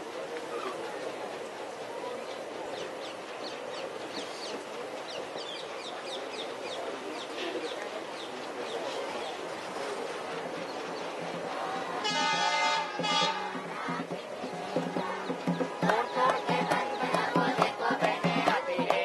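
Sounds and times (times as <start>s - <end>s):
birds chirping: 0.0s - 19.0s
steady background noise: 0.0s - 19.0s.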